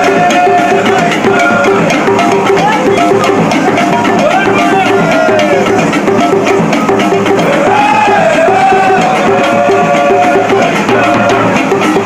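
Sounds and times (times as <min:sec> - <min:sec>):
bass drum: 0:00.0 - 0:12.0
percussion strokes: 0:00.0 - 0:12.0.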